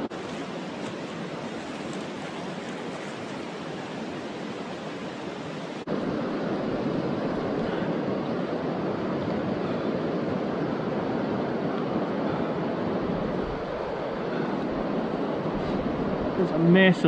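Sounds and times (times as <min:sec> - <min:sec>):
river water rushing: 0:00.0 - 0:17.0
wind: 0:00.0 - 0:17.0.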